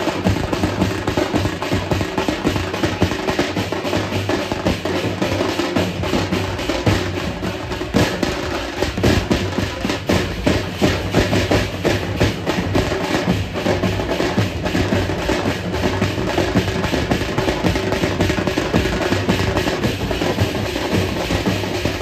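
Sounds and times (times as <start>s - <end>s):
drum band playing fast rhythm: 0.0s - 22.0s.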